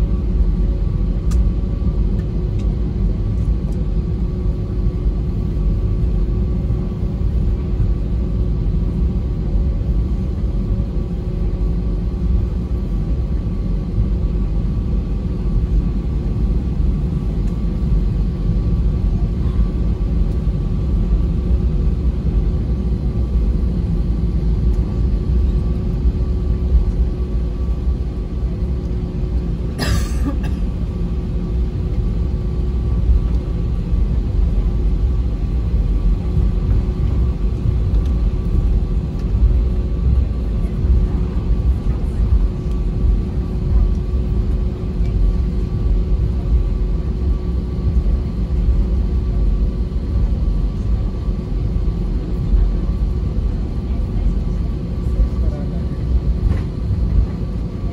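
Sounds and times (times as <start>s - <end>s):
aircraft cabin low rumble: 0.0s - 57.9s
faint steady engine tones: 0.0s - 57.9s.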